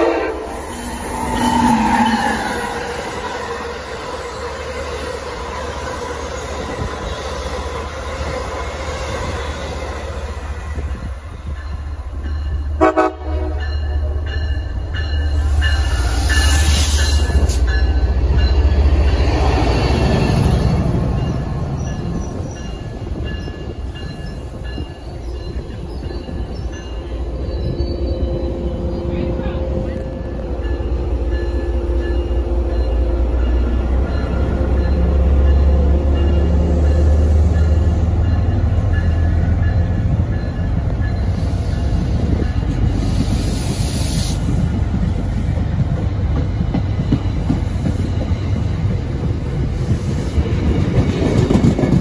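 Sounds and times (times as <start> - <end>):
deep train rumble: 0.0 - 52.0.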